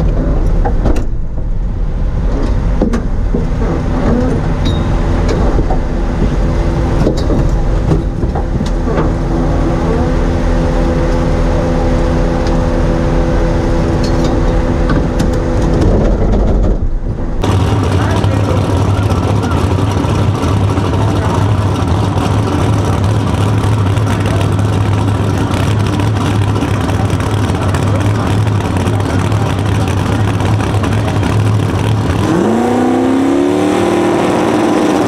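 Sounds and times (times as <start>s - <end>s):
race car engine rumbling: 0.0s - 35.0s.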